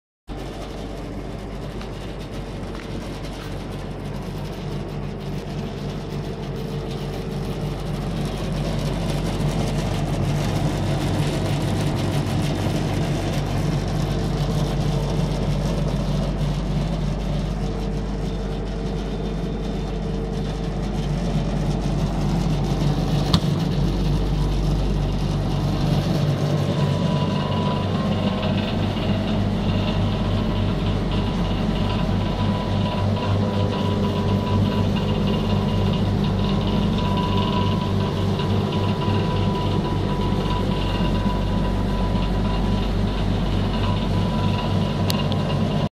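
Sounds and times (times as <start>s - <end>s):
machinery electrical hum: 0.3s - 45.9s.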